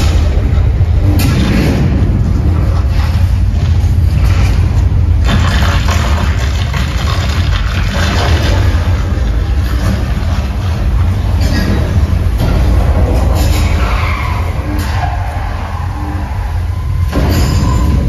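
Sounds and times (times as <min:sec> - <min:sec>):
rattling and crashing: 0:00.0 - 0:15.3
deep rumble: 0:00.0 - 0:18.0.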